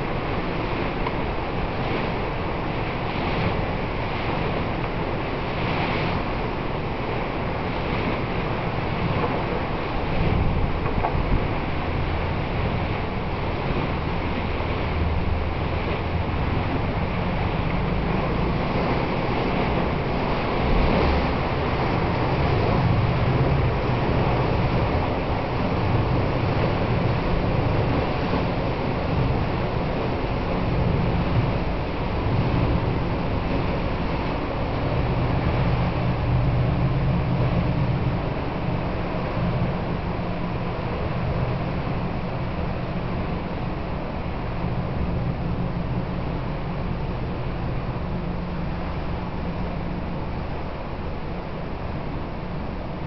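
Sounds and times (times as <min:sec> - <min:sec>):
rushing sea water: 0:00.0 - 0:53.0
wind buffeting microphone: 0:00.0 - 0:53.0.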